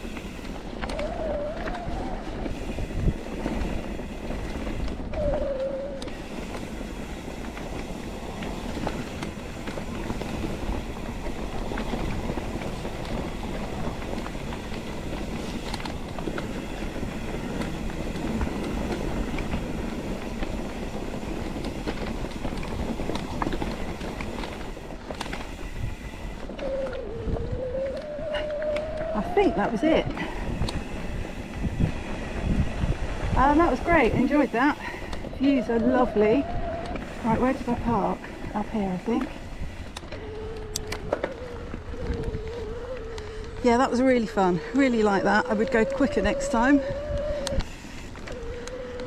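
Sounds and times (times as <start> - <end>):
bike rattling over bumps: 0.0 - 49.0
bike tyres rumbling on dirt: 0.0 - 49.0.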